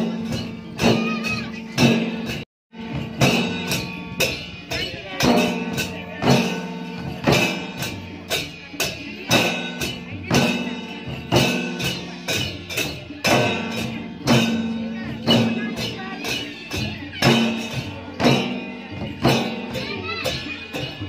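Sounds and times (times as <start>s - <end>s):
barrel drums beaten in rhythm: 0.0s - 21.0s.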